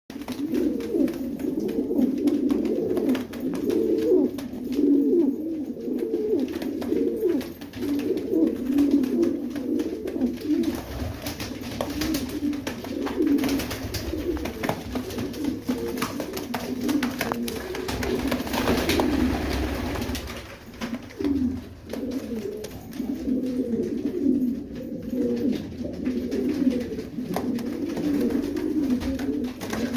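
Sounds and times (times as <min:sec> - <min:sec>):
pigeons cooing: 0:00.1 - 0:29.9.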